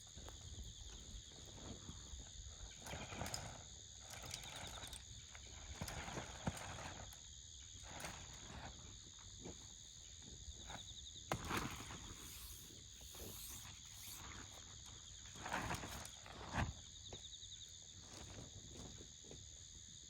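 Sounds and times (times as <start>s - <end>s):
insects trilling: 0.0s - 6.2s, 7.1s - 19.1s.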